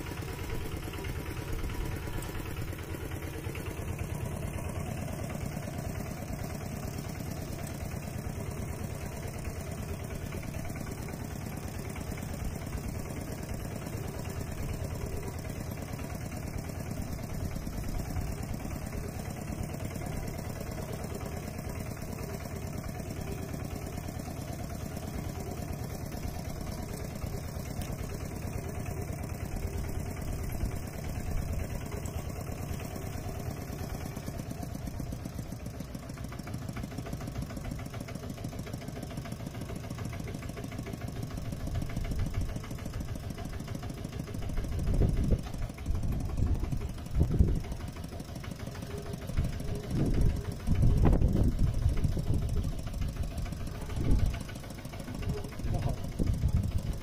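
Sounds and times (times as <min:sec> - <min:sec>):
mini tractor engine running: 0:00.0 - 0:57.0.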